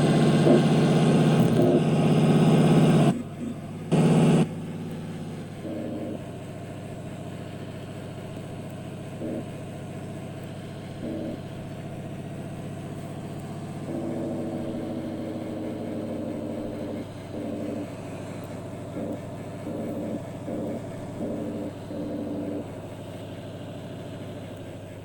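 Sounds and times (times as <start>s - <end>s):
truck engine droning: 0.0s - 25.0s.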